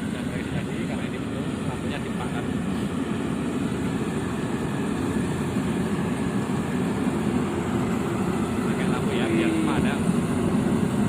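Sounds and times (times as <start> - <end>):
combine harvester rattling drone: 0.0 - 11.0.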